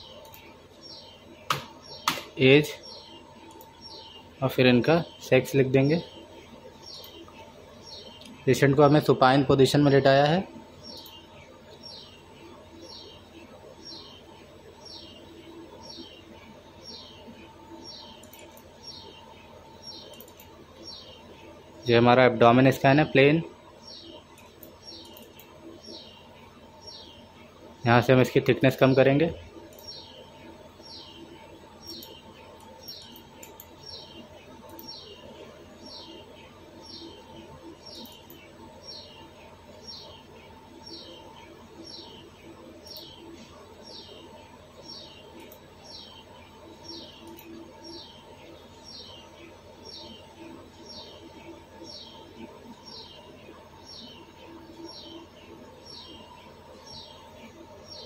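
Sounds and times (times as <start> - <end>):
bird chirping: 0.0 - 58.0
electrical hum with whine: 0.0 - 58.0.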